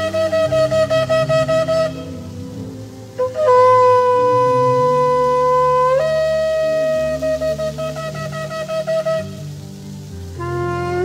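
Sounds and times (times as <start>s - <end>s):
shofar blasts: 0.0s - 9.6s, 10.4s - 11.0s.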